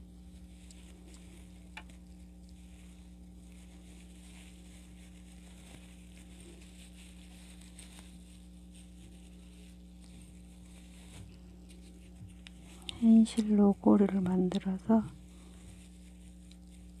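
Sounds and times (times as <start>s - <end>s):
low electrical hum: 0.0s - 17.0s
yarn and crochet hook rustling: 0.0s - 17.0s.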